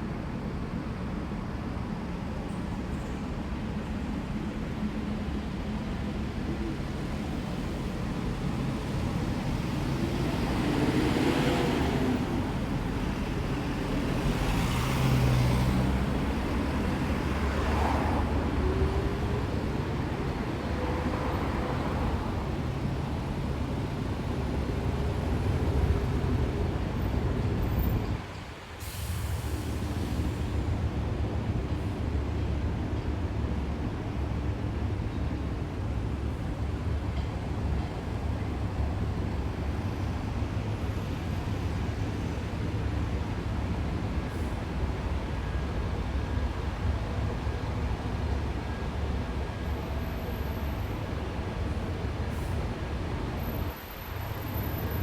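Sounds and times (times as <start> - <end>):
traffic engine rumble: 0.2 - 55.0.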